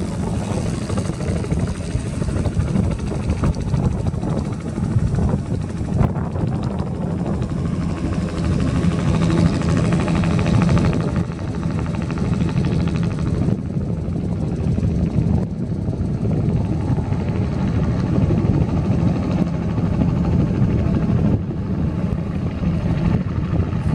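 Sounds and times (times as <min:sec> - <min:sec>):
helicopter rotor and turbine: 0:00.0 - 0:23.9.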